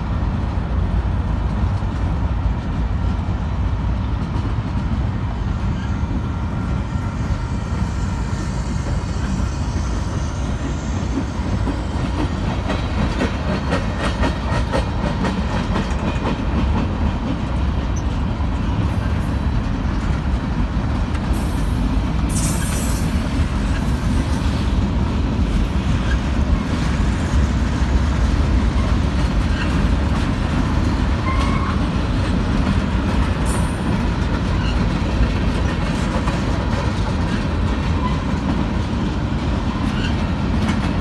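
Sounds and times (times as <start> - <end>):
steel wheels rumbling on rail: 0.0 - 41.0.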